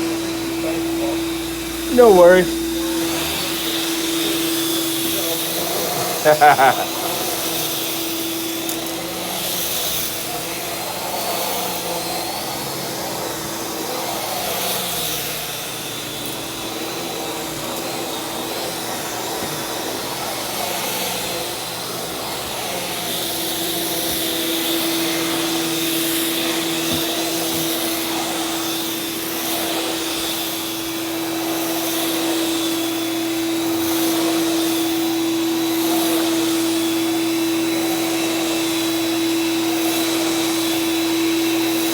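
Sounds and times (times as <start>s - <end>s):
vacuum cleaner on carpet: 0.0s - 41.9s.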